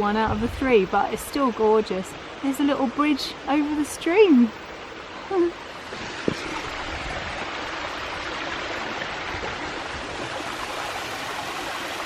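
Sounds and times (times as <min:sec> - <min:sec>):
stream and small waterfall rushing: 0:00.0 - 0:12.0.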